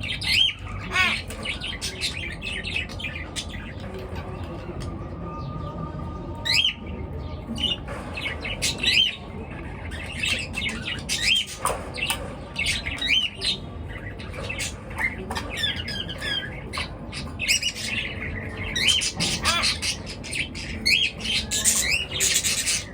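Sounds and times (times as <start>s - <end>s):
pet birds chirping and squawking: 0.0s - 22.9s.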